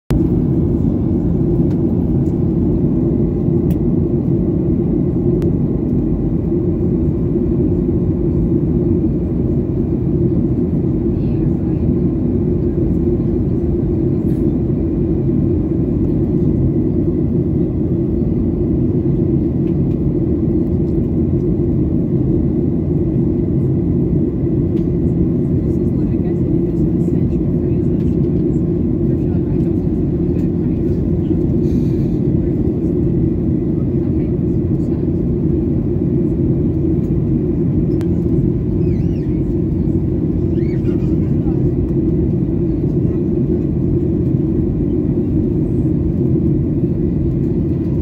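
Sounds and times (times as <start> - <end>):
jet engine cabin rumble: 0.1 - 48.0.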